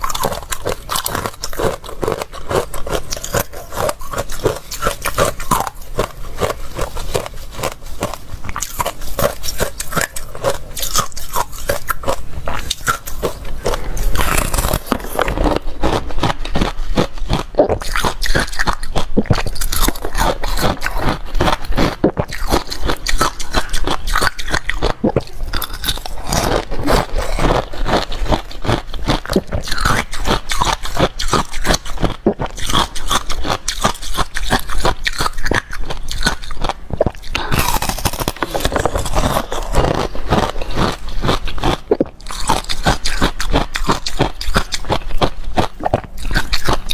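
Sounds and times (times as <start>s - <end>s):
person chewing ice: 0.0s - 46.9s.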